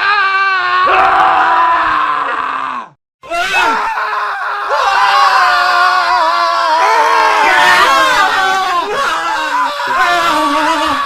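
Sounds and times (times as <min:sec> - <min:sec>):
men screaming: 0:00.0 - 0:11.0.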